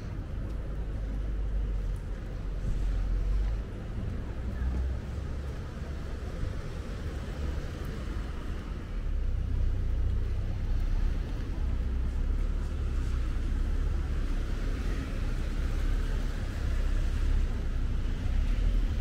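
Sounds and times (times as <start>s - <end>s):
low city street rumble: 0.0s - 19.0s.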